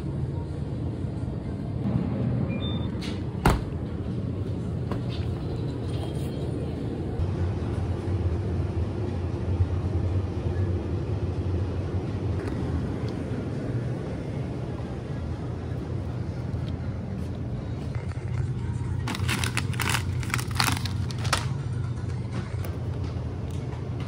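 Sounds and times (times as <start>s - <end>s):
vehicle rumble in motion: 0.0s - 24.0s.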